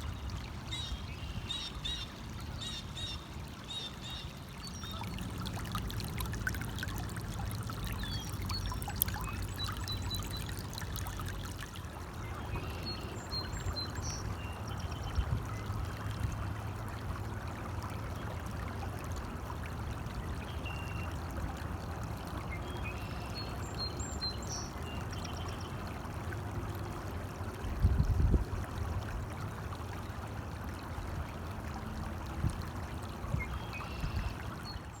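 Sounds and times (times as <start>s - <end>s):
stream trickling and splashing: 0.0s - 35.0s.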